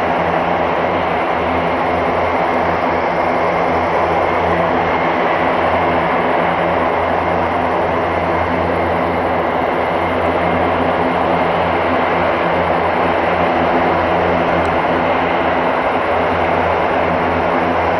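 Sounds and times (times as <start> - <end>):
high steady engine whine: 0.0 - 17.9
turboprop engines droning: 0.0 - 17.9.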